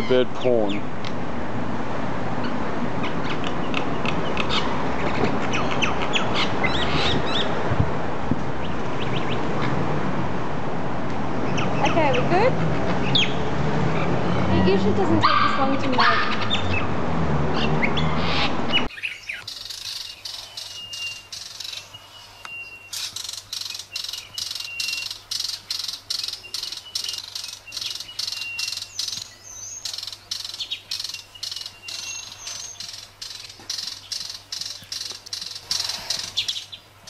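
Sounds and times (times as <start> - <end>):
bird chirping: 2.4 - 7.6, 11.4 - 16.9, 17.6 - 37.0.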